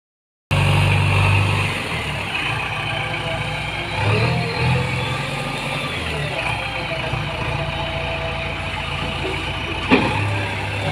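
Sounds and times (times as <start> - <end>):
diesel engine working: 0.5 - 10.9.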